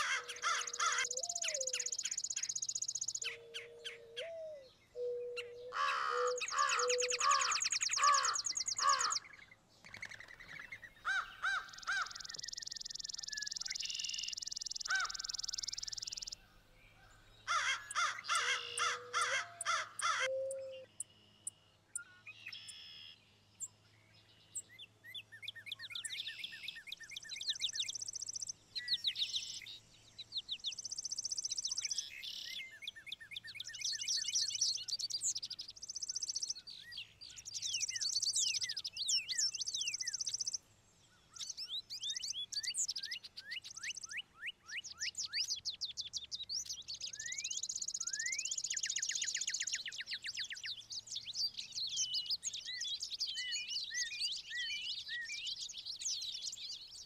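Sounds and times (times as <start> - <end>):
songbirds singing and calling: 0.0 - 57.0.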